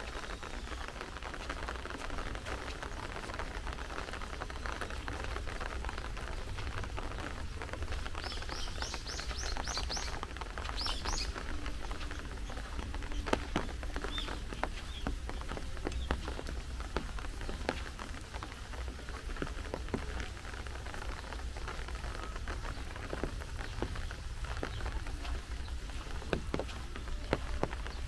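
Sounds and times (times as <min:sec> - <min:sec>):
rain falling: 0:00.0 - 0:28.0
raindrops tapping: 0:00.0 - 0:28.0.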